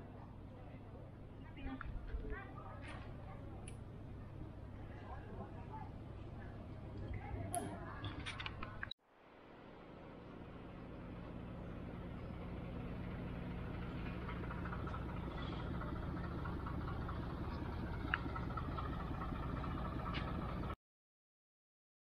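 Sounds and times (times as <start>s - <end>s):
engine hum: 0.0s - 20.8s.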